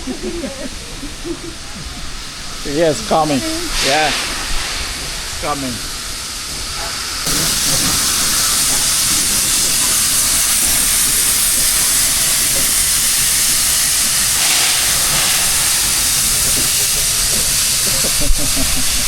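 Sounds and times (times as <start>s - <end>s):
steam locomotive venting steam: 0.0s - 19.0s.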